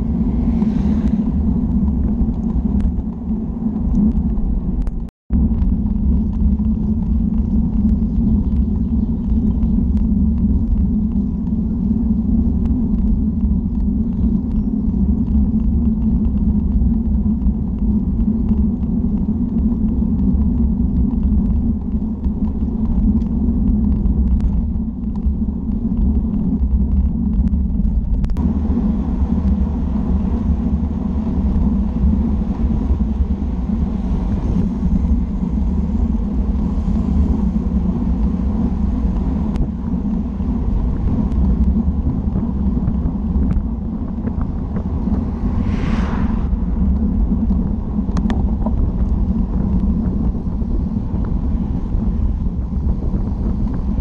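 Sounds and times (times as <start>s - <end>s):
bicycle road noise: 0.0s - 54.0s
wind rumble on microphone: 0.0s - 54.0s.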